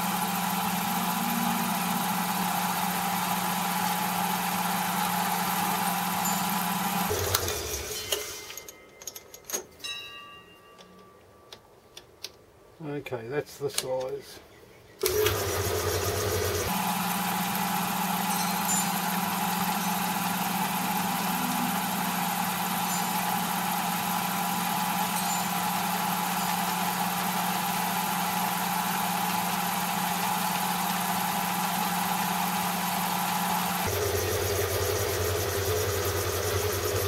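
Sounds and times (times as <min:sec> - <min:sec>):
small mill motor humming: 0:00.0 - 0:08.3, 0:15.0 - 0:37.0.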